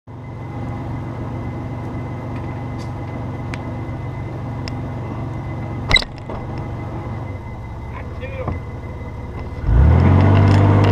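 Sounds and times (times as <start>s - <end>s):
car engine idling: 0.1s - 10.9s.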